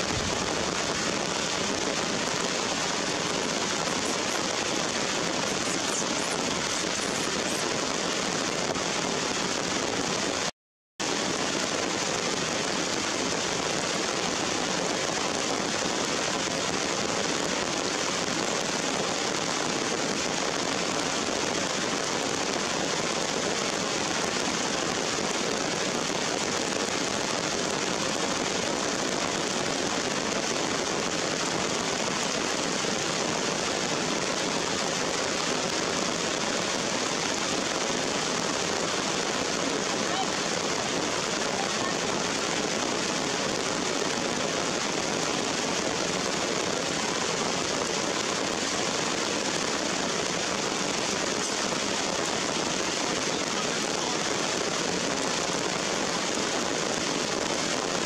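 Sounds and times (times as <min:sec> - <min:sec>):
rain on wet leaves and rock: 0:00.0 - 0:58.0.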